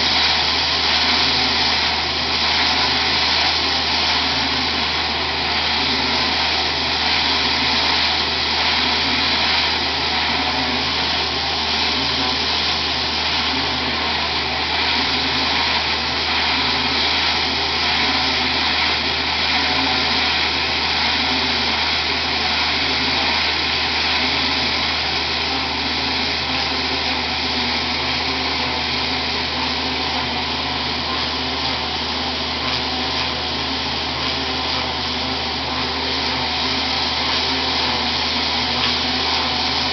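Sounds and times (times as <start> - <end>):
equipment washer running: 0.0 - 39.9.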